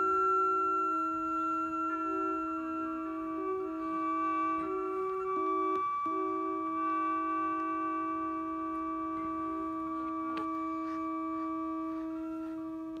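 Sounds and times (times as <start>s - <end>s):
organ-like held chord: 0.0s - 12.2s.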